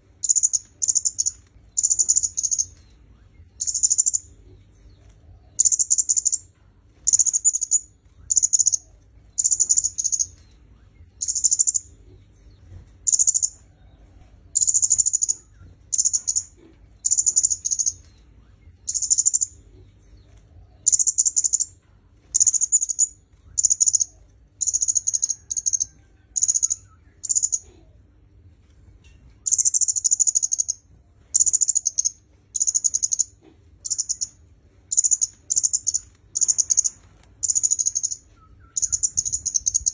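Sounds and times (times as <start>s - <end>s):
bird chirping: 0.1s - 28.0s, 29.0s - 39.9s.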